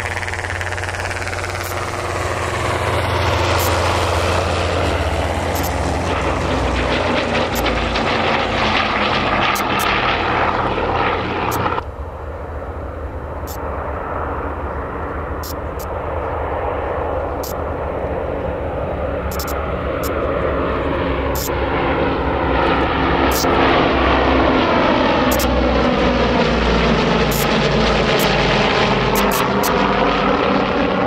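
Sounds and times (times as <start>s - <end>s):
propeller airliner droning: 0.0s - 31.0s.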